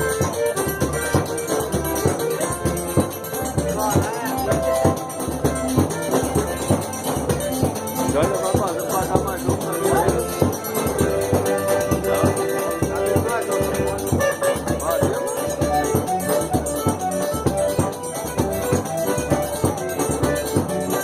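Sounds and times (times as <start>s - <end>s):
dance music with percussion: 0.0s - 21.0s.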